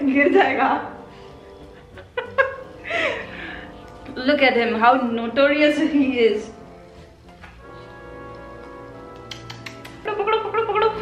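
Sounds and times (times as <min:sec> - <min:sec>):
soft held chord music: 0:00.0 - 0:11.0.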